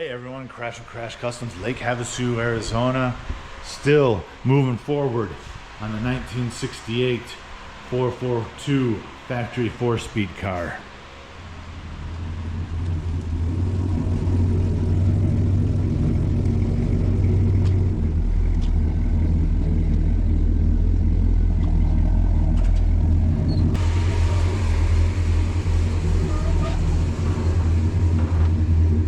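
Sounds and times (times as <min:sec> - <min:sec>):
car engine rumbling: 0:00.1 - 0:29.0.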